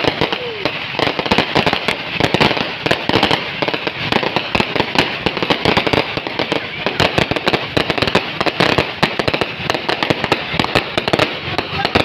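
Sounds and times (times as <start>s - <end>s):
fireworks and firecrackers: 0.0s - 12.0s.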